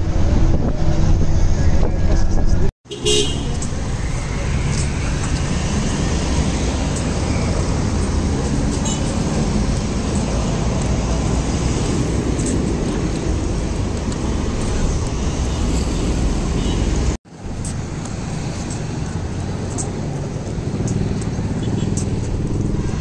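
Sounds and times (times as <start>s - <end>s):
traffic noise with low rumble: 0.0s - 23.0s.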